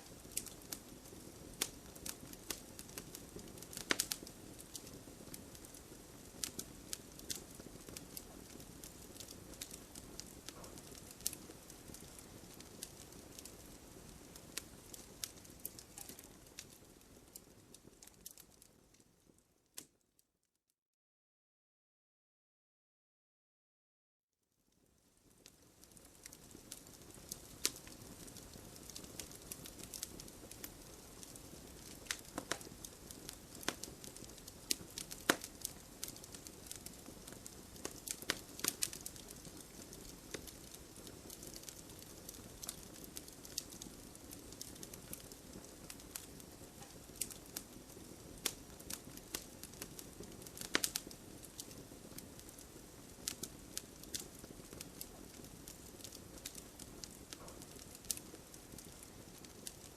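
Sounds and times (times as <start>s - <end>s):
logs crackling and popping: 0.0s - 19.0s, 25.2s - 59.9s.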